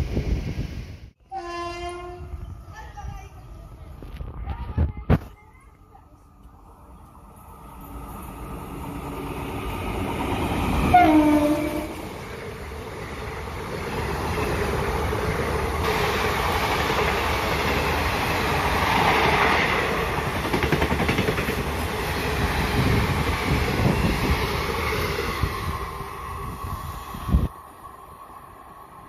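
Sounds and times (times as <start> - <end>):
train coaches rumbling past: 5.4 - 29.0.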